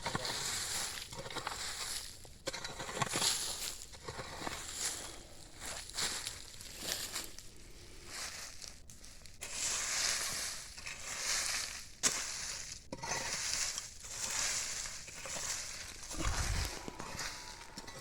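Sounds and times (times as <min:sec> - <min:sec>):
hoe scraping through dry leaves: 0:00.0 - 0:18.0.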